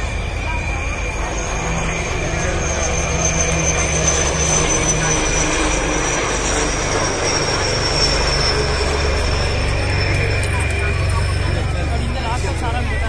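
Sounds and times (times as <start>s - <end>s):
helicopters flying past: 0.0s - 13.0s.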